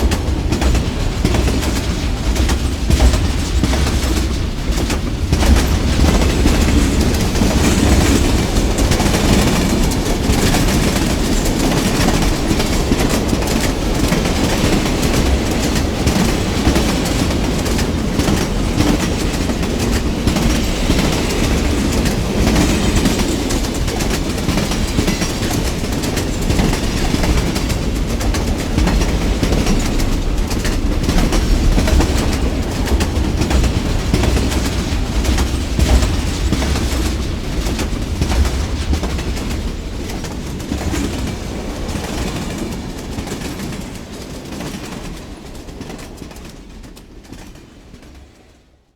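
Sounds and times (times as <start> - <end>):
wheels clicking over track: 0.0 - 47.6
train wheels rumbling on rails: 0.0 - 48.9.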